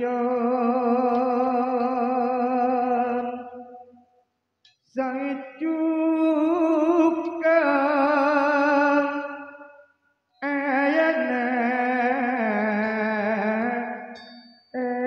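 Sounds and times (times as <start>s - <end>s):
man singing unaccompanied: 0.0s - 3.9s, 4.9s - 9.8s, 10.4s - 15.0s.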